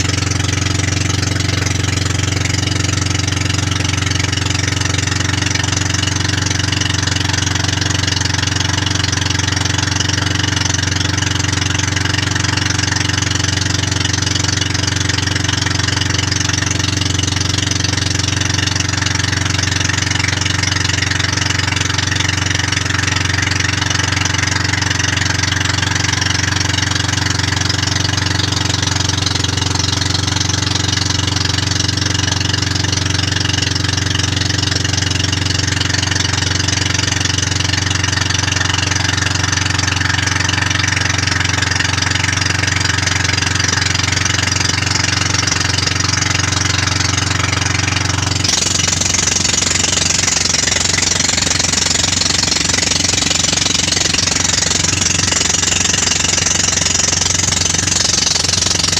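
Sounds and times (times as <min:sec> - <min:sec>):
boat engine running: 0:00.0 - 0:58.9.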